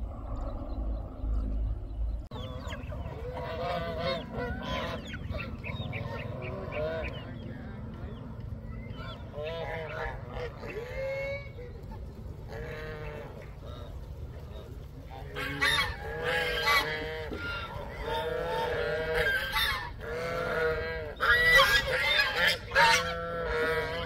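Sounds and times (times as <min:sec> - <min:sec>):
geese honking: 0:02.3 - 0:24.0.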